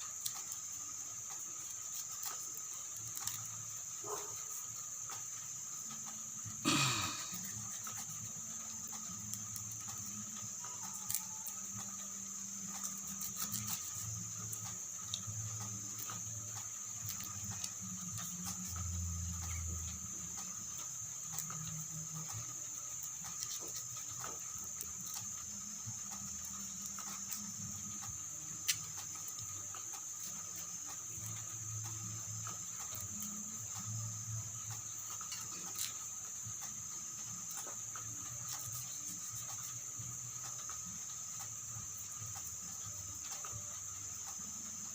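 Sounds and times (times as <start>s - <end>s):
steady high-pitched hum: 0.0s - 44.9s
carving clicks and scrapes: 0.1s - 6.2s, 7.4s - 40.8s.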